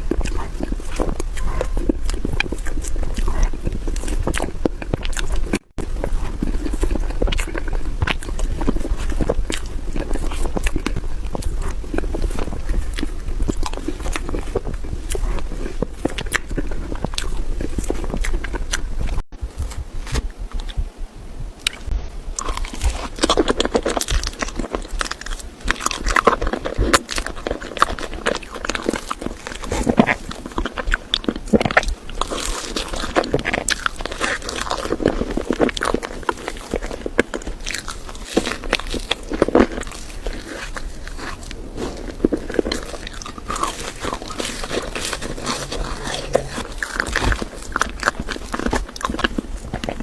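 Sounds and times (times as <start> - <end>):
person biting and chewing: 0.0 - 20.8, 21.6 - 50.0.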